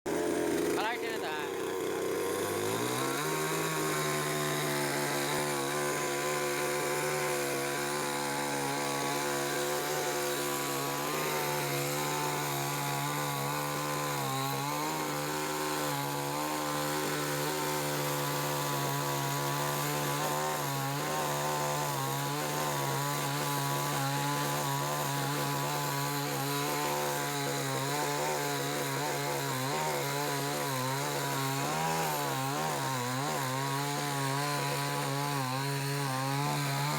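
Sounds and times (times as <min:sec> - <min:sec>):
chainsaw cutting wood: 0:00.1 - 0:36.9.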